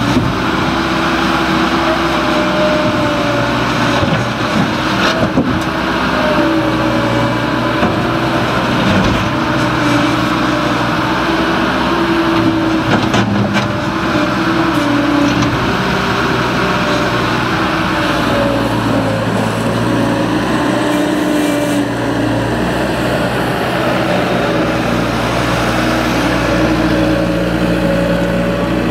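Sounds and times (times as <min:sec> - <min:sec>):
diesel engine under load: 0:00.0 - 0:28.9.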